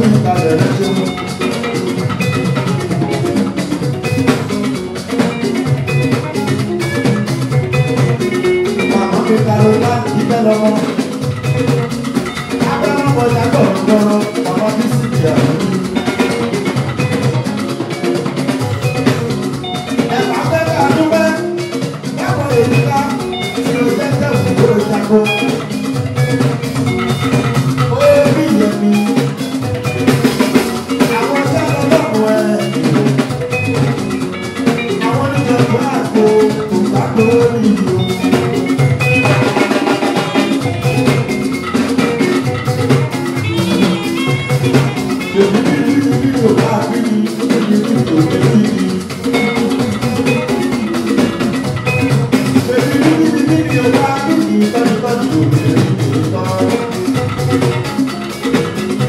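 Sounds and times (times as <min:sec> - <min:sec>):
bass guitar: 0:00.0 - 0:59.0
drums: 0:00.0 - 0:59.0
electric guitars: 0:00.0 - 0:59.0.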